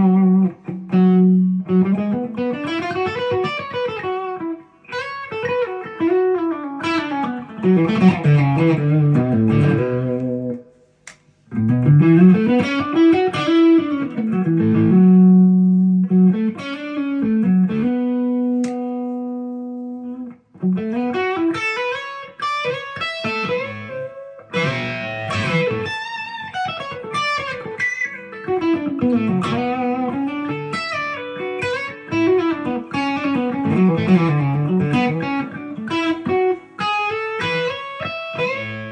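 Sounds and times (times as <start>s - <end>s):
electric guitar playing: 0.0s - 10.8s, 11.5s - 38.9s.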